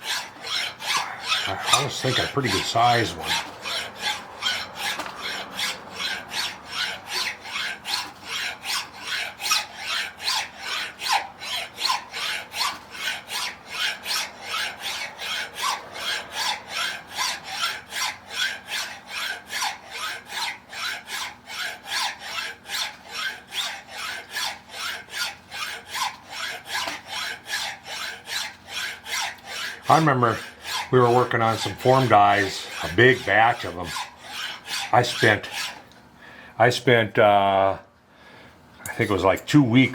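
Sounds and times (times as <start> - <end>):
hand file rasping on metal: 0.0 - 36.0.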